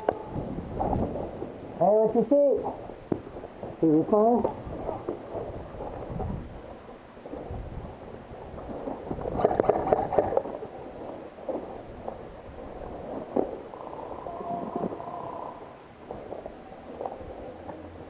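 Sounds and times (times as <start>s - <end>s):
muffled rumbling and rustling: 0.0s - 18.0s.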